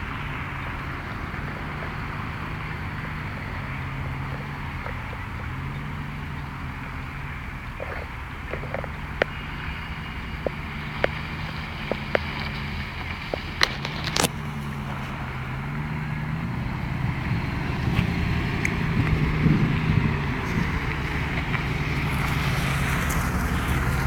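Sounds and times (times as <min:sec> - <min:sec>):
car engine at low throttle: 0:00.0 - 0:24.0.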